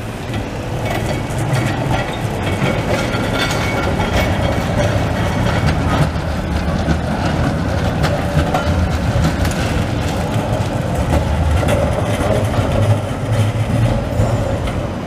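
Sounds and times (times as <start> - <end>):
tram wheels rolling on rails: 0.0 - 15.0.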